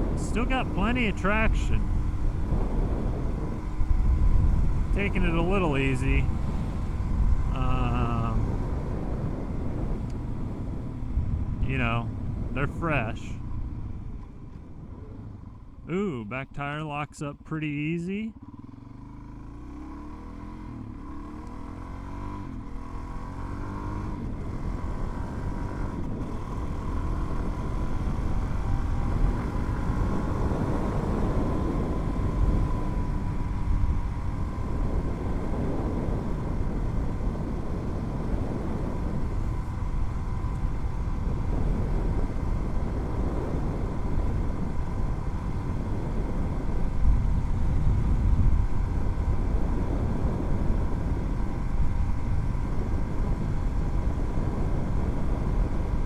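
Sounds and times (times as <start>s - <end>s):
wind noise: 0.0s - 15.8s, 23.6s - 56.0s
motorcycle engine running: 0.0s - 16.2s, 17.3s - 56.0s.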